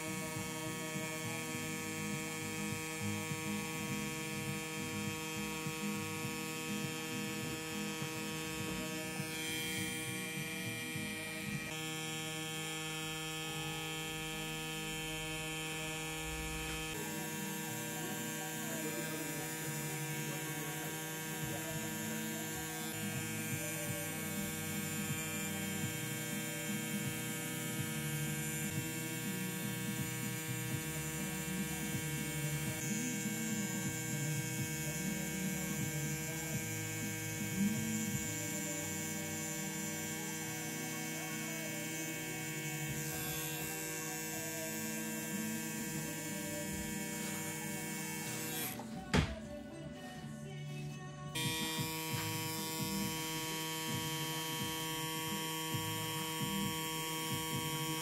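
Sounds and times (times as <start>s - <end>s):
tattoo machine humming: 0.0s - 49.5s, 51.3s - 58.0s.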